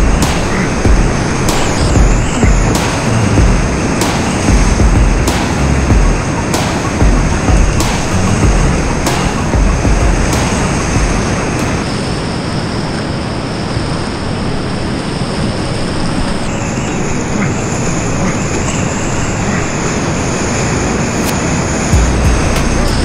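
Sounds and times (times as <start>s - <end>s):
whitewater rushing: 0.0s - 23.0s.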